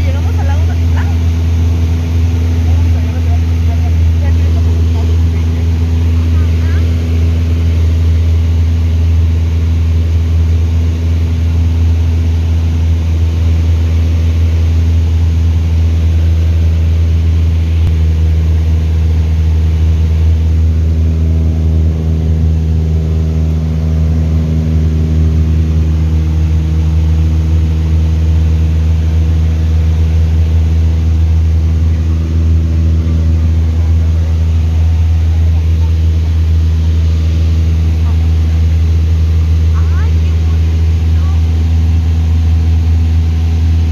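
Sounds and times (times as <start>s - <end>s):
propeller aircraft engine humming: 0.0s - 43.9s.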